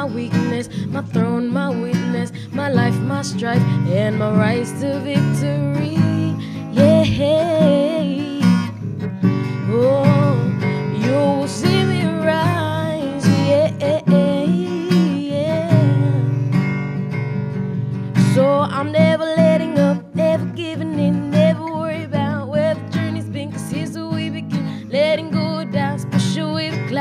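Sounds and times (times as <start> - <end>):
woman singing: 0.0 - 16.8, 18.1 - 27.0
acoustic guitar strumming: 0.0 - 27.0.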